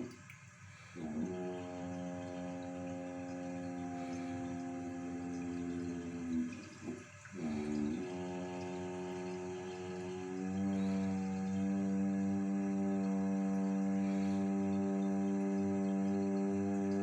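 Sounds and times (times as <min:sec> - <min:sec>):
running water: 0:00.0 - 0:17.0
toilet cistern humming: 0:00.0 - 0:17.0.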